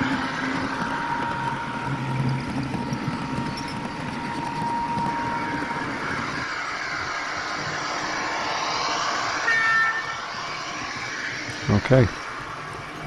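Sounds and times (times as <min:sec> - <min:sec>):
high wheel squeal: 0:00.0 - 0:13.0
model train running: 0:00.0 - 0:13.0.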